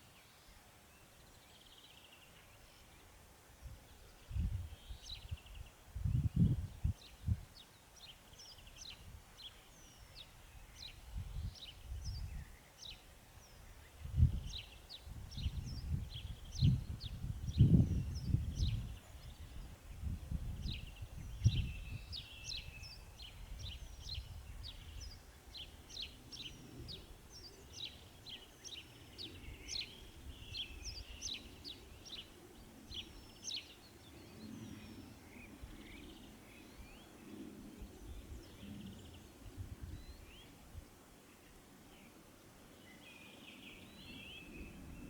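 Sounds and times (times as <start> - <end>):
songbirds chirping and twittering: 0.0 - 45.0.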